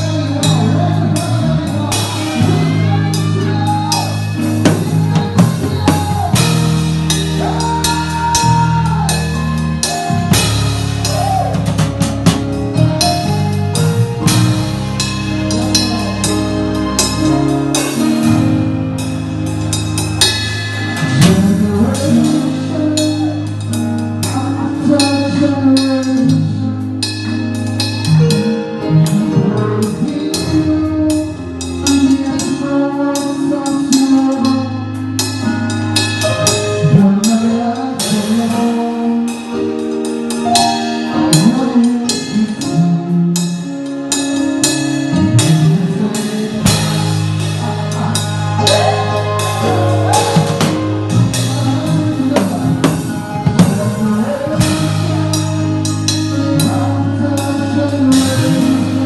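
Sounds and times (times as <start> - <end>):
drum kit: 0.0 - 59.0
electric bass line: 0.0 - 59.0.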